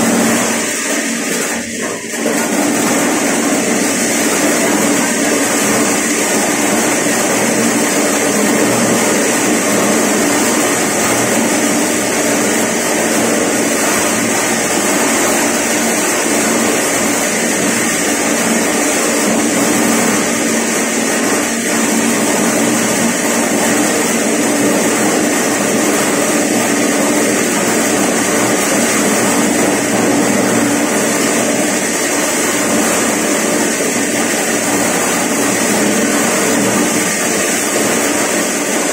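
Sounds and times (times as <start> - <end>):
corn sheller machine running: 0.0 - 38.9.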